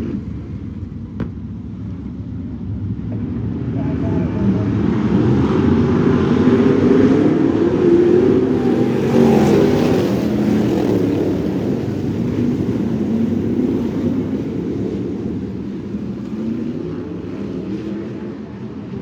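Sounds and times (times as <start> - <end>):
race car engines revving: 2.9 - 19.0.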